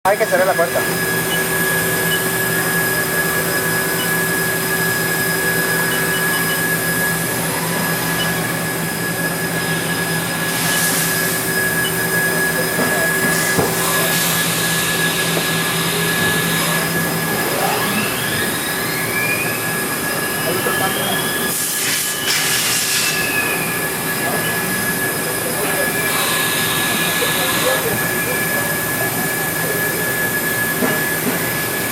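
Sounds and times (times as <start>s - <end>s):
machining center whine and hum: 0.0s - 31.9s.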